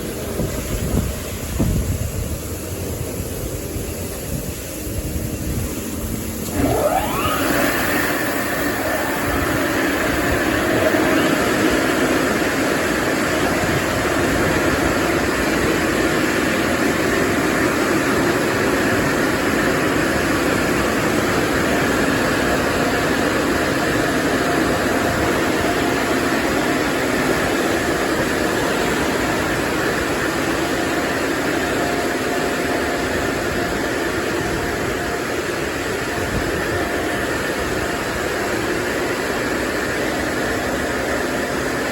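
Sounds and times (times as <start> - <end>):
air-dryer blowers rushing: 3.8 - 41.9.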